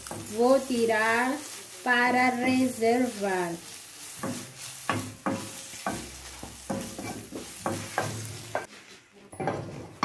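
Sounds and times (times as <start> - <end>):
spoon knocking and scraping pan: 0.0 - 0.9, 2.0 - 10.0
onions sizzling in oil: 0.0 - 9.0.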